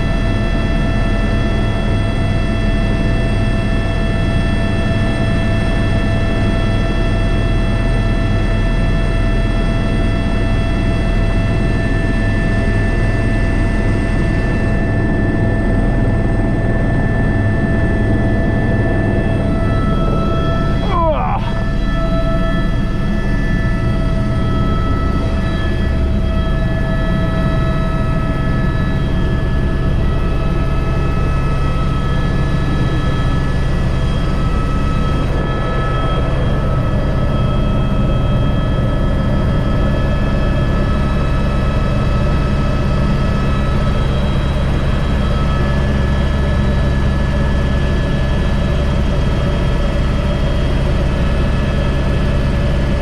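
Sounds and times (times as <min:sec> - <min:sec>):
helicopter rotor rumble: 0:00.0 - 0:53.0
helicopter turbine whine: 0:00.0 - 0:53.0.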